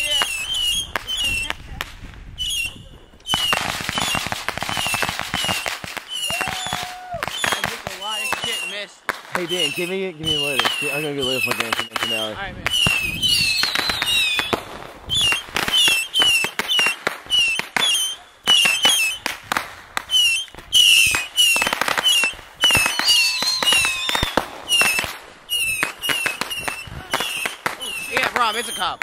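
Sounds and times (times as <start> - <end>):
fireworks bangs with whistles: 0.0 - 29.0.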